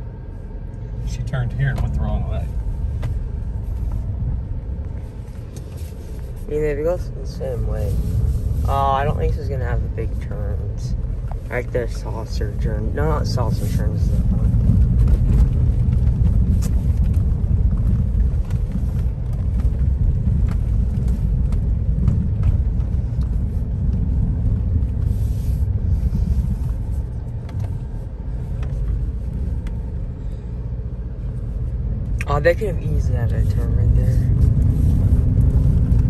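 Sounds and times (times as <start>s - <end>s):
engine and tyres rumbling: 0.0s - 36.0s.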